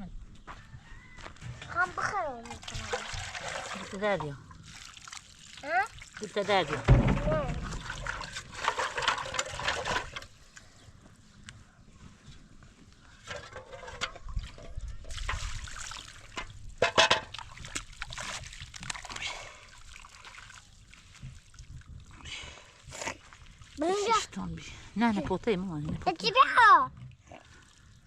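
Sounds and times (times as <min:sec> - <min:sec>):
water splashing and trickling: 0:01.6 - 0:10.8, 0:13.6 - 0:28.0.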